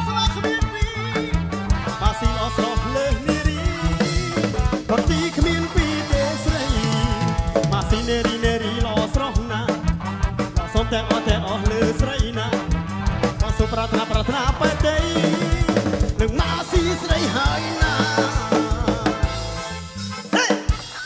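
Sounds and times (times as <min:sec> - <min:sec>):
music with drum beat: 0:00.0 - 0:21.0.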